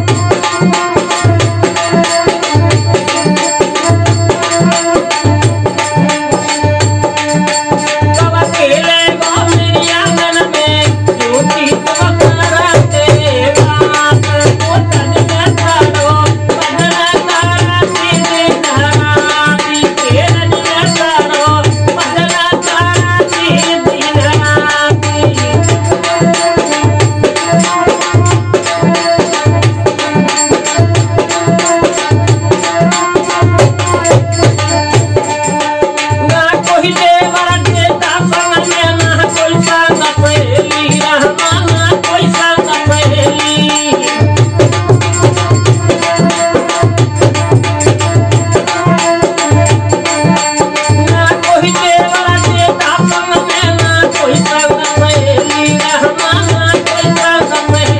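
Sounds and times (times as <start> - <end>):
hand drum beating a rhythm: 0.0 - 57.9
harmonium: 0.0 - 57.9
man singing: 0.0 - 57.9
rattle-like hand percussion: 0.0 - 57.9.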